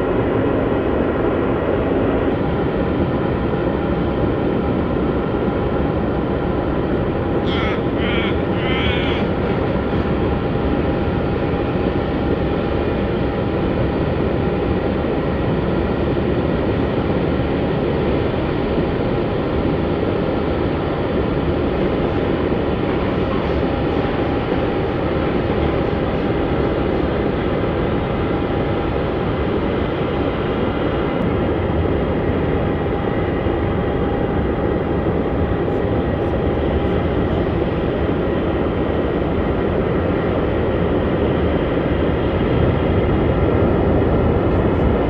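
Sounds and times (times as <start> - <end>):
jet engines rushing and whining: 0.0 - 45.0.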